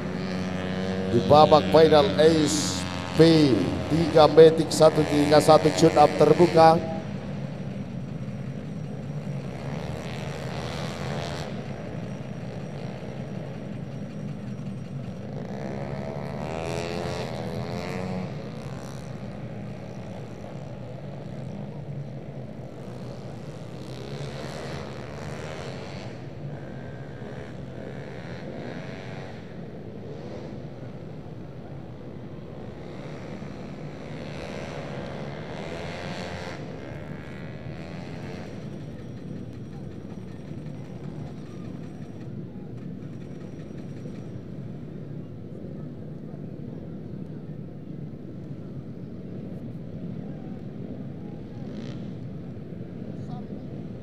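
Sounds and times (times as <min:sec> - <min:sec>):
scooter engines buzzing past: 0:00.0 - 0:44.8, 0:51.3 - 0:54.0.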